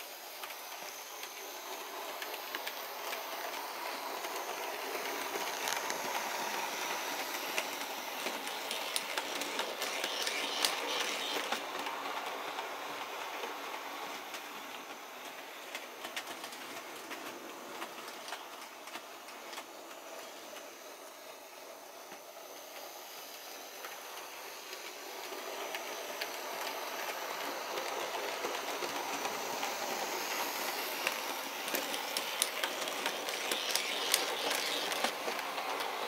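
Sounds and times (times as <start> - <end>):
model train motor whirring: 0.0 - 36.0.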